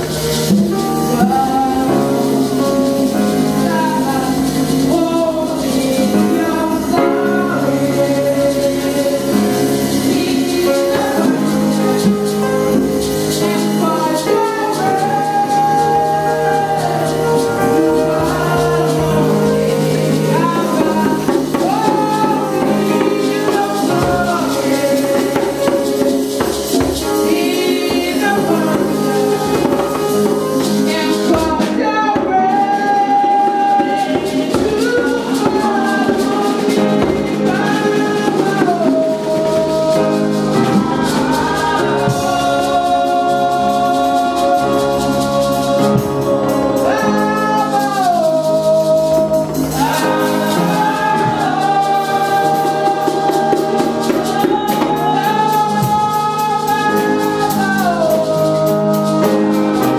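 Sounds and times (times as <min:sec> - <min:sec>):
backing singers: 0:00.0 - 0:59.9
piano accompaniment: 0:00.0 - 0:59.9
woman singing gospel: 0:00.0 - 0:59.9.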